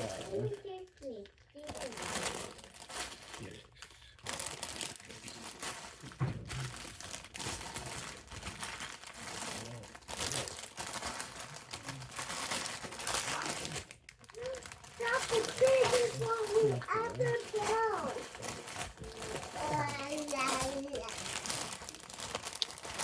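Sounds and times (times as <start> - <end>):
plastic bags crinkling: 0.0 - 23.0.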